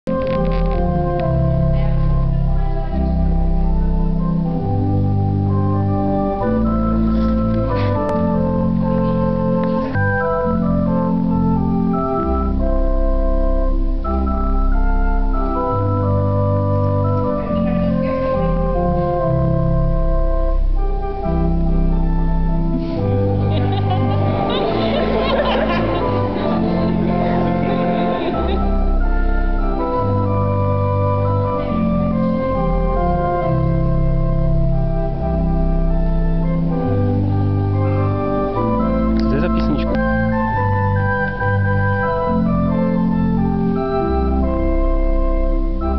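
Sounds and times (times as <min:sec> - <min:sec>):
organ playing sustained chords: 0:00.1 - 0:45.9.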